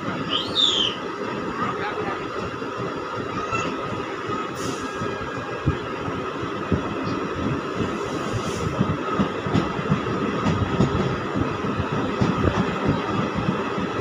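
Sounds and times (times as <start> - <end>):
passing train coaches: 0.0 - 14.0
train wheels on rail: 0.0 - 14.0.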